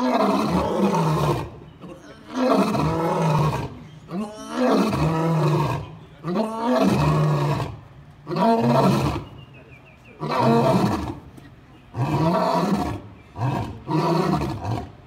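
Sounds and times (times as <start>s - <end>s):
lion roaring: 0.0s - 1.6s, 2.3s - 9.2s, 10.2s - 11.2s, 11.9s - 14.9s.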